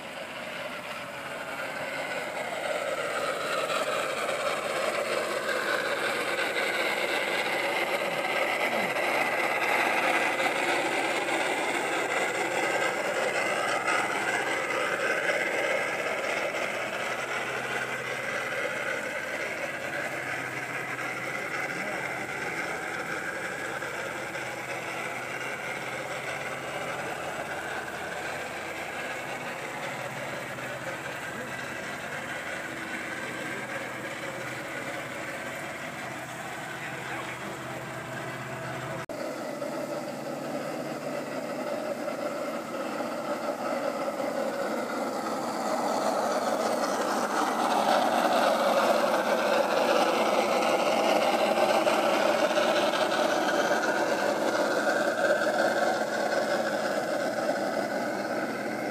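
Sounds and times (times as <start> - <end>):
model locomotive drive whirring: 0.0 - 58.9.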